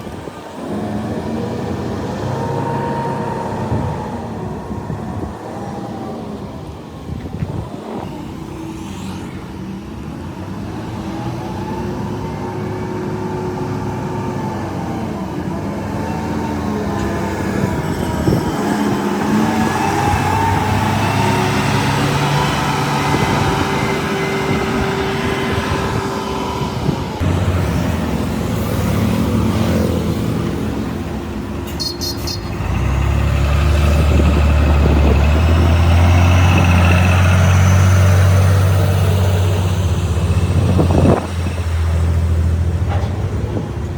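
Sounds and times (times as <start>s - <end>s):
heavy vehicle engine running: 0.0s - 43.9s.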